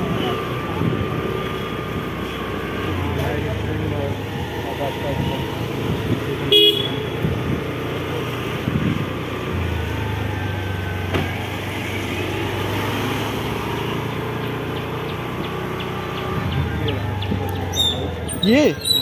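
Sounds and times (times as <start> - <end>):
deep engine hum: 0.0 - 19.0
road and wind noise: 0.0 - 19.0.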